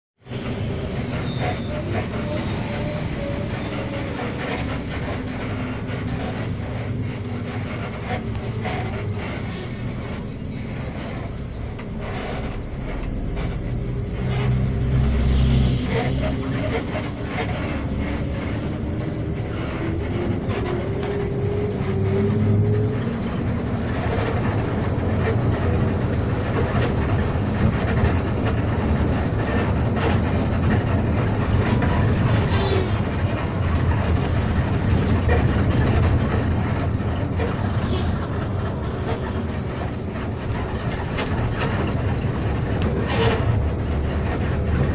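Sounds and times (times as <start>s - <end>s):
bus engine and road rumble: 0.2s - 44.9s.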